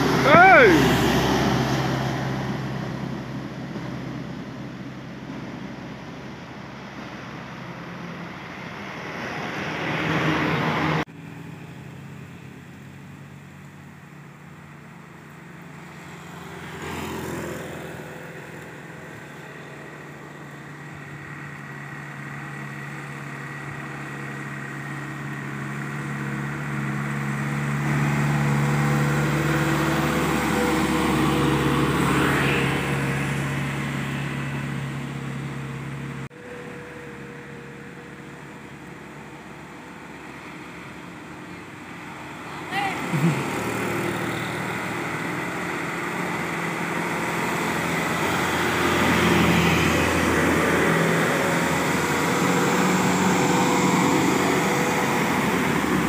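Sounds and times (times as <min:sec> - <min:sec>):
vehicle passing: 0:00.0 - 0:12.8, 0:14.6 - 0:56.0
truck engine passing: 0:00.0 - 0:56.0.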